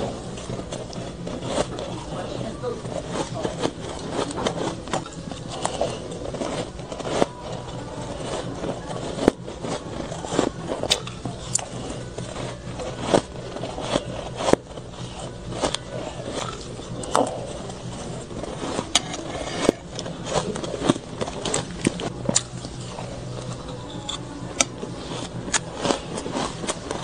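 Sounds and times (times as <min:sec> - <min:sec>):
chewing crunchy shaved ice: 0:00.0 - 0:27.0.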